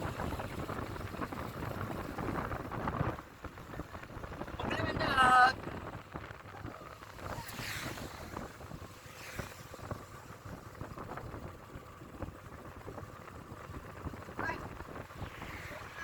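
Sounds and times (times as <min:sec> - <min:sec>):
road traffic rumble: 0:00.0 - 0:16.0
vehicles passing by: 0:00.0 - 0:16.0
wind buffeting microphone: 0:00.0 - 0:16.0.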